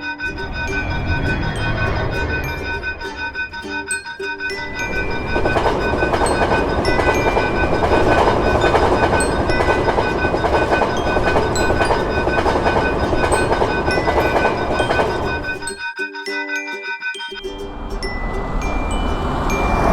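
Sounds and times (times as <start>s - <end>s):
crossing warning bell ringing: 0.0s - 19.9s
train wheels rumbling on rails: 0.2s - 15.8s, 17.6s - 19.9s.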